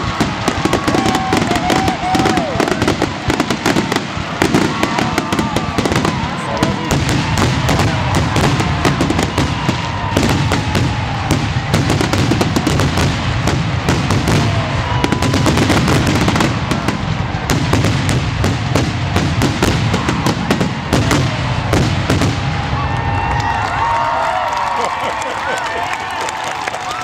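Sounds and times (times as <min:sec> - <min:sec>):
fireworks crackling: 0:00.0 - 0:27.0.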